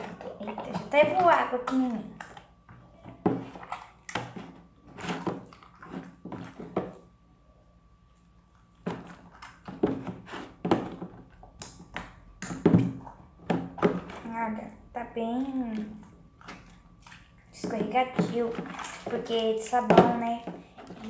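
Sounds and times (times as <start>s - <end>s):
wet slime squishing: 0.0s - 7.2s, 8.0s - 21.0s.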